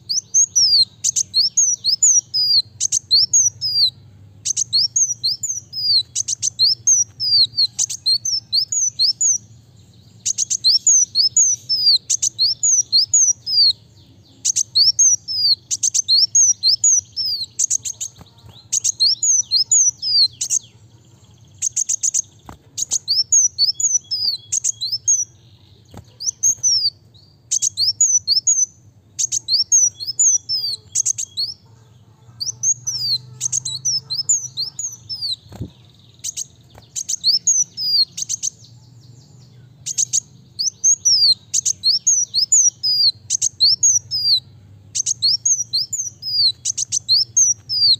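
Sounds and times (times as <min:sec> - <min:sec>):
bird singing sharp notes: 0:00.0 - 0:47.9.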